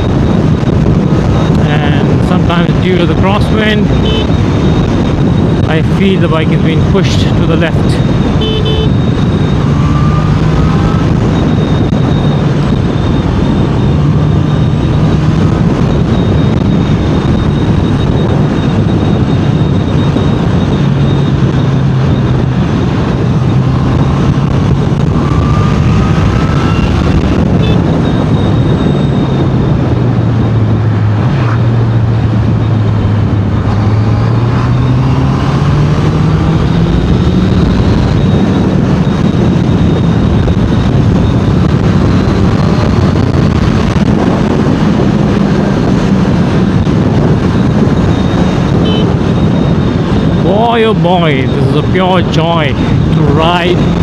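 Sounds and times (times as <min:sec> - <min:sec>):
wind rush over microphone: 0:00.0 - 0:54.0.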